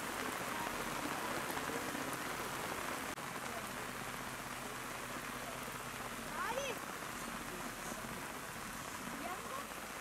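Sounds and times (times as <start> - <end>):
rain on grass and foliage: 0.0 - 10.0.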